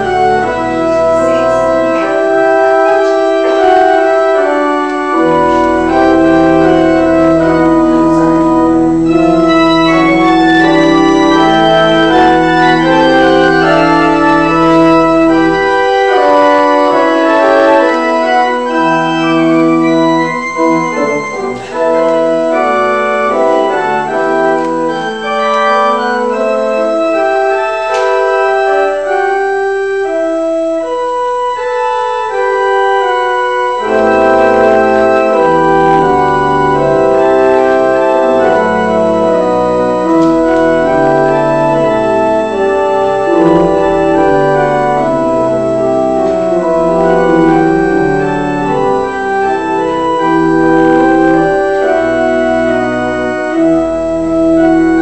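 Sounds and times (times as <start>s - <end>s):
church organ playing sustained chords: 0.0s - 55.0s.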